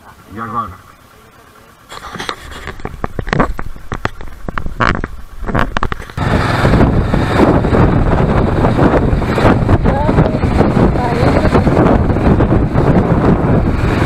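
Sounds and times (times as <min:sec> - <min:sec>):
road noise: 0:00.0 - 0:14.0
motorcycle engine: 0:00.8 - 0:14.0
wind buffeting microphone: 0:02.0 - 0:14.0.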